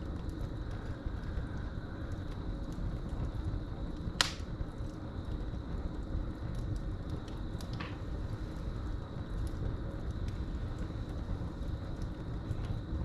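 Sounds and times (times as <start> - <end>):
crickets chirping: 0.0 - 13.0
fire popping: 0.0 - 13.0
wood fire crackling: 0.0 - 13.0.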